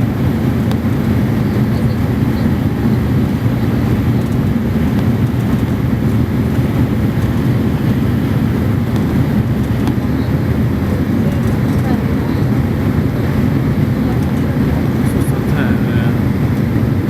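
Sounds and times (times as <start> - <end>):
turboprop drone inside cabin: 0.0 - 17.0.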